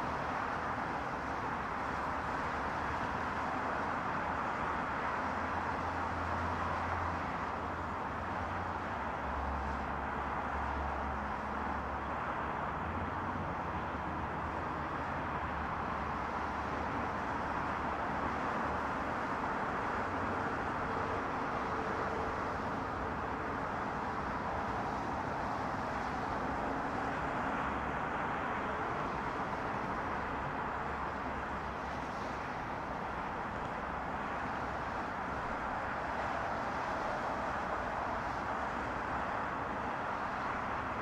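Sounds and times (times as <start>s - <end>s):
highway traffic rushing: 0.0s - 41.0s.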